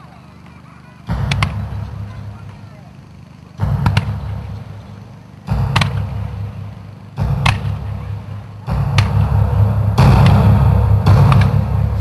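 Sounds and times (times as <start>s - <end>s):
fireworks cracking and booming: 1.1s - 12.0s.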